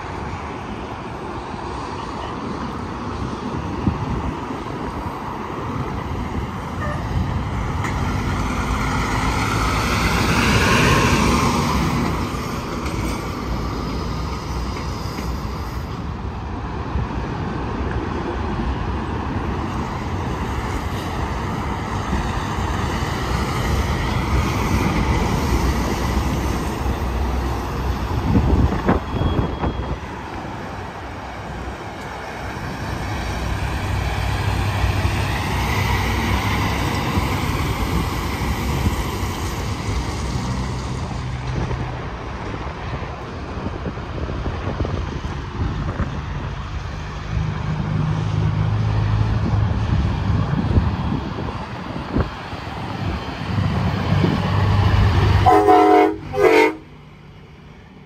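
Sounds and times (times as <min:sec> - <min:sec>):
highway traffic noise: 0:00.0 - 0:58.0.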